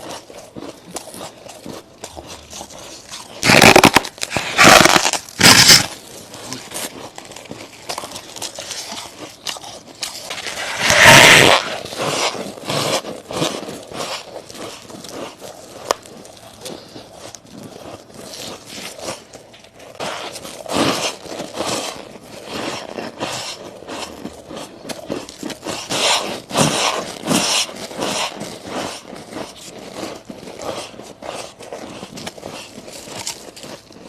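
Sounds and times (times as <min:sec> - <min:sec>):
chewing and crunching ice: 0:00.0 - 0:34.0.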